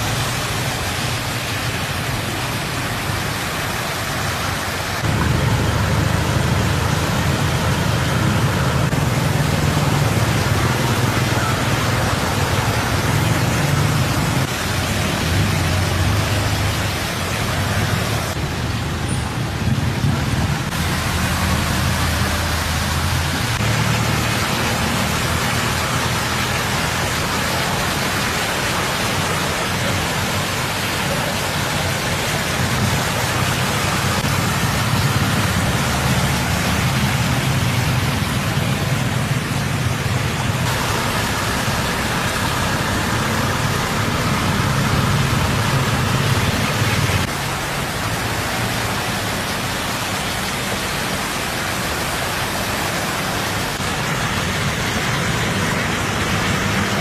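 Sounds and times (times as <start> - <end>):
low engine rumble: 0.0 - 57.0
tyre spray and moving water: 0.0 - 57.0.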